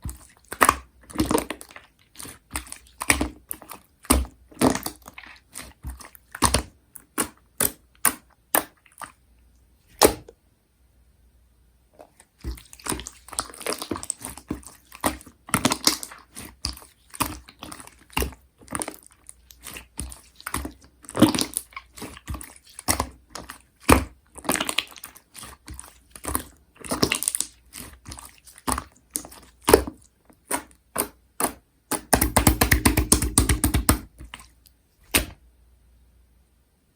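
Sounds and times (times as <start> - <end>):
slime squishing: 0.0 - 10.4, 11.9 - 35.4.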